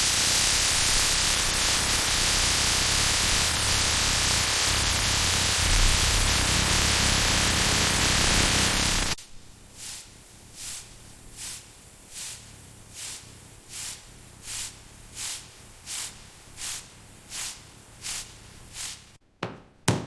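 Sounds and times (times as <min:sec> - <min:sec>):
loud steady hissing: 0:00.0 - 0:19.2.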